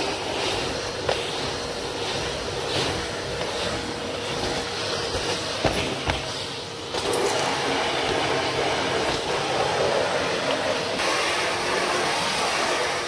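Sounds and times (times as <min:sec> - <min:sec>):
vacuum cleaner on carpet: 0:00.0 - 0:13.0.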